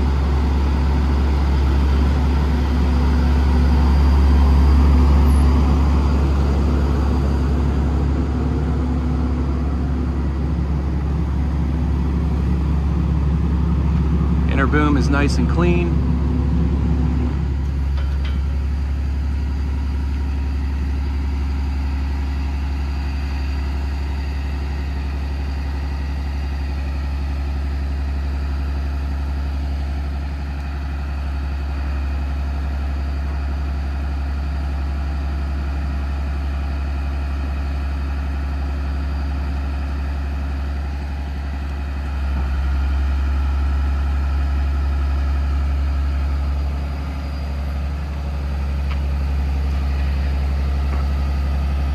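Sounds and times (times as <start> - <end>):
diesel truck engine idling: 0.0 - 51.9.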